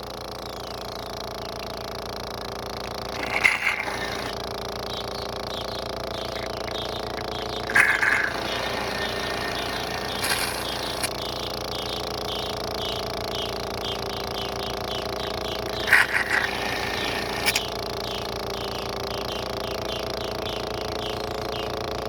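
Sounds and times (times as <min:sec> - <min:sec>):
suction device humming: 0:00.0 - 0:22.0.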